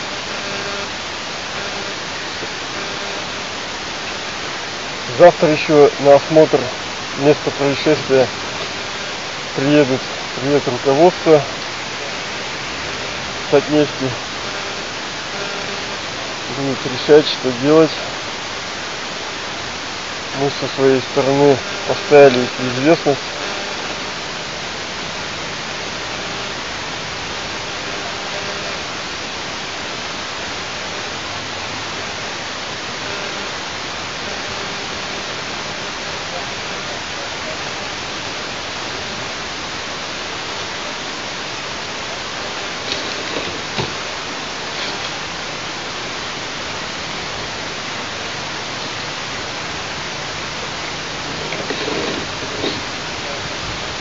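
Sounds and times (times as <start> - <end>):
steady microphone hiss: 0.0 - 54.0.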